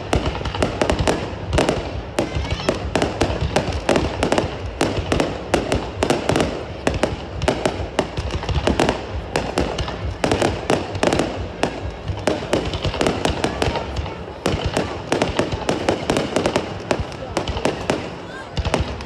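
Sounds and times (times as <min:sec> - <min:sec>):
fireworks bangs and pops: 0:00.0 - 0:19.0.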